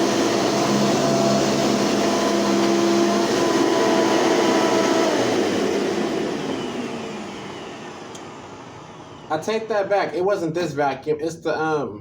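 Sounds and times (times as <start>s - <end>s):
vacuum cleaner motor whine: 0.0s - 10.2s.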